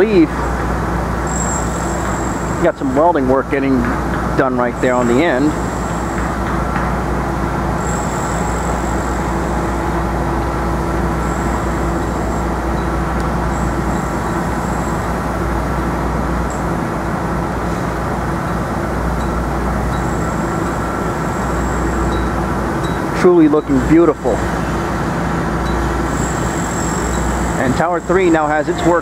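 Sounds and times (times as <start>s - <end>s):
faint steady hum: 0.0s - 29.0s
thin high whine: 0.0s - 29.0s.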